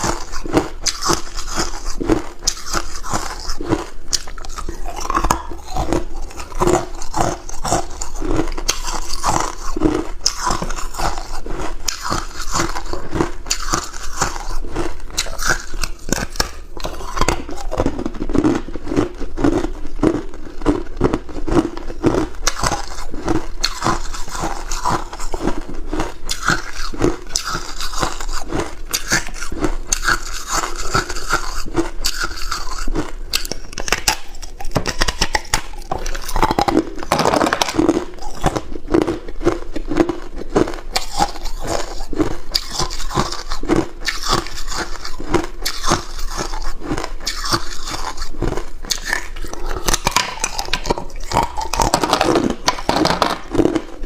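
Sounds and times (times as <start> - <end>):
ice being chewed: 0.0 - 54.0.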